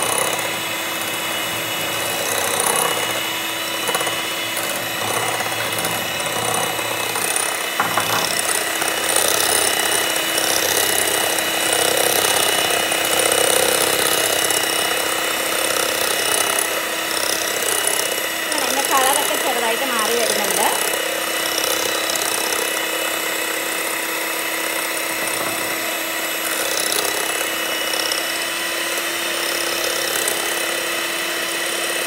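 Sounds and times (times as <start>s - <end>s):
electric hand mixer whipping liquid: 0.0s - 32.0s.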